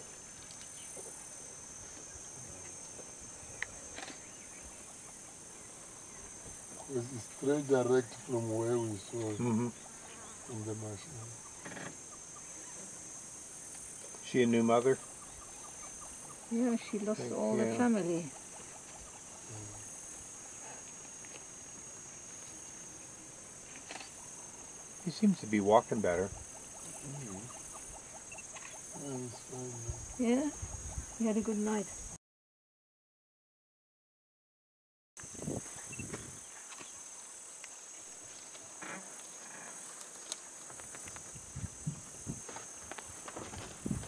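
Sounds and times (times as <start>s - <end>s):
insects droning: 0.0s - 32.2s, 35.2s - 44.0s.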